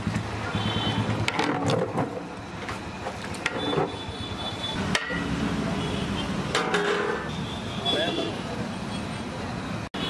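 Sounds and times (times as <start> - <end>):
busy street noise: 0.0 - 10.0.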